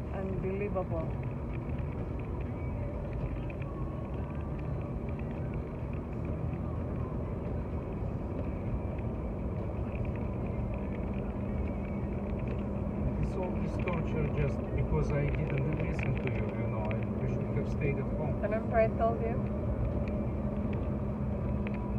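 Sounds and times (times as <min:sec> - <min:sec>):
car engine and tyres rumbling: 0:00.0 - 0:21.9.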